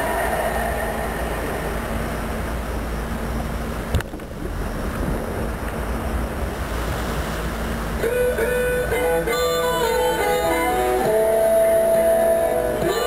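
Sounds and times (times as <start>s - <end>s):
wind and water rushing: 0.0s - 11.3s
boat engine drone: 0.0s - 13.0s
faint steady hum: 0.0s - 13.0s.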